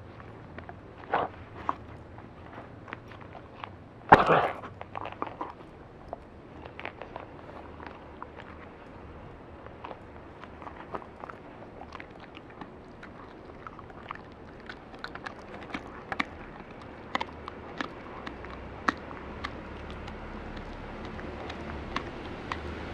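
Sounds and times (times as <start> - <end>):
dog chewing crunchy treat: 0.0 - 22.9.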